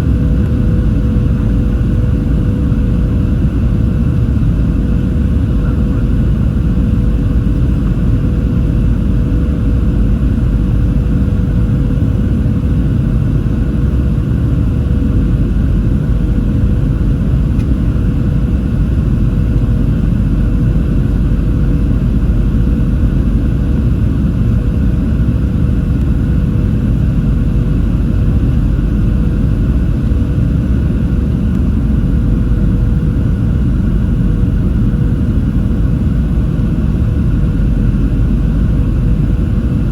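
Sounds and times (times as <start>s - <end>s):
aircraft engine rumble: 0.0s - 39.9s
constant hum: 0.0s - 39.9s.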